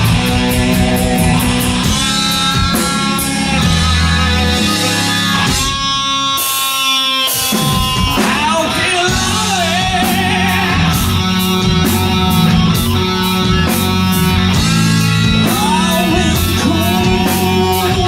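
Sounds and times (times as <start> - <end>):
drums and cymbal beat: 0.0 - 18.0
live hard rock band: 0.0 - 18.0
wavering lead guitar melody: 0.0 - 18.0.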